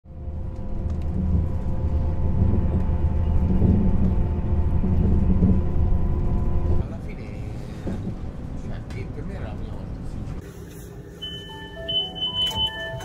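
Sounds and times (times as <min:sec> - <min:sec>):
vehicle rumbling: 0:00.1 - 0:13.0.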